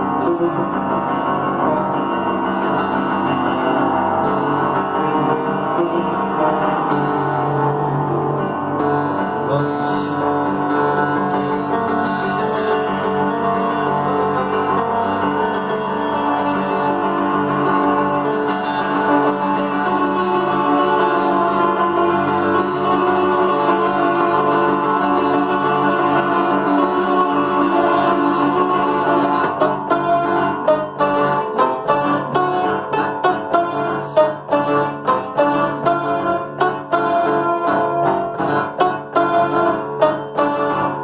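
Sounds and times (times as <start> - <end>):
music with guitar and keyboard: 0.0 - 41.0.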